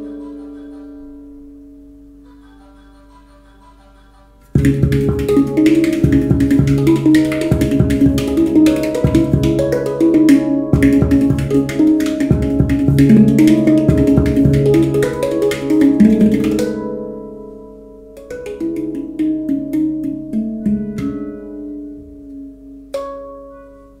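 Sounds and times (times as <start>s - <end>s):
handpan notes ringing: 0.0s - 3.5s, 4.5s - 24.0s.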